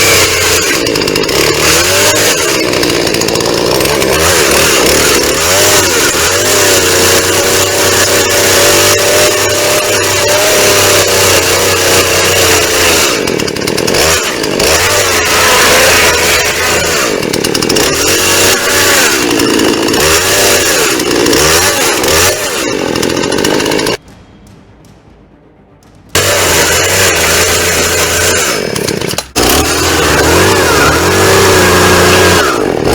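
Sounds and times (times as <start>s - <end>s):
chainsaw cutting into box: 0.0s - 24.0s, 26.2s - 32.9s.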